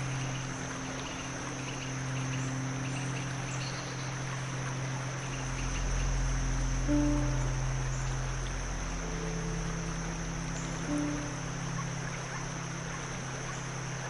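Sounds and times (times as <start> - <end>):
crickets chirping: 0.0 - 14.0
flowing stream: 0.0 - 14.0
low steady drone: 0.0 - 14.0.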